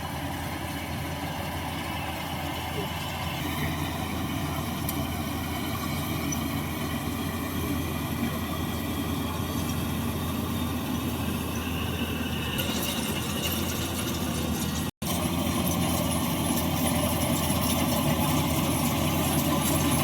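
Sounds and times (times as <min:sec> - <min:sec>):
combine harvester droning: 0:00.0 - 0:20.0
high machine whine: 0:00.0 - 0:20.0.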